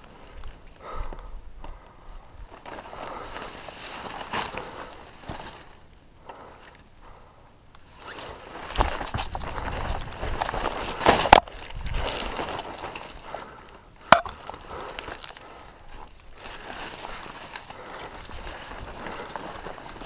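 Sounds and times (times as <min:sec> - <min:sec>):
footsteps through dry brush: 0:00.0 - 0:06.9, 0:07.8 - 0:20.0.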